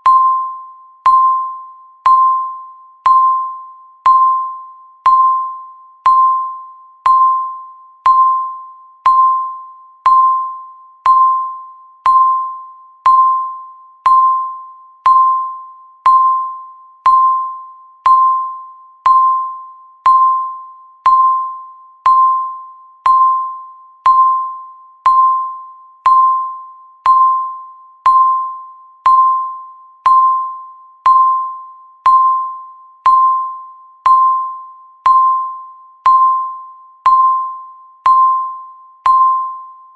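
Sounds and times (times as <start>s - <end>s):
electronic timer ding: 0.0s - 39.9s.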